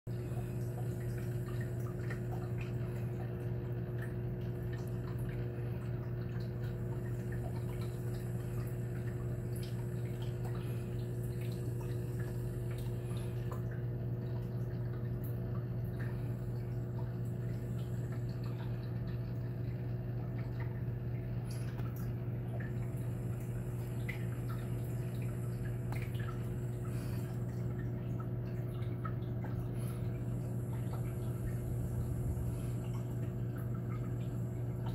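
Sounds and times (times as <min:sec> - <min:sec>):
aquarium pumps humming: 0:00.1 - 0:34.9
water dripping and trickling: 0:00.1 - 0:34.9.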